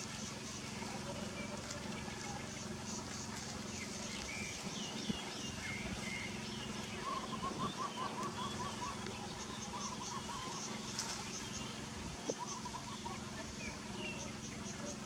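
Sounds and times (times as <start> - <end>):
birds chirping: 0.2 - 15.0.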